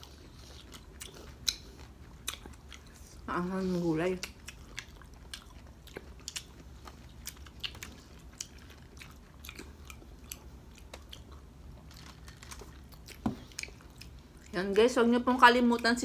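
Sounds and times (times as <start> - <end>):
wet chewing and lip-smacking: 0.0 - 14.8.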